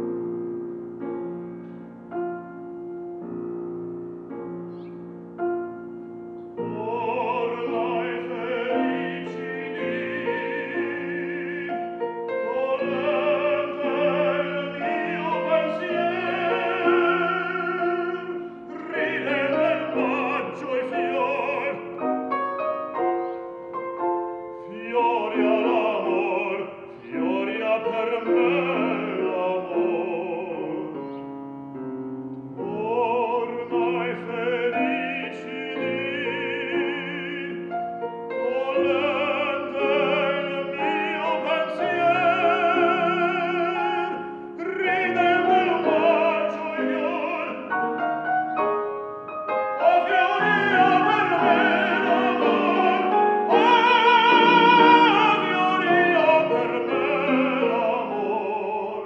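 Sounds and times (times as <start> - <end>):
grand piano accompaniment: 0.0 - 59.0
operatic tenor singing: 6.5 - 31.2, 32.5 - 48.8, 49.4 - 59.0.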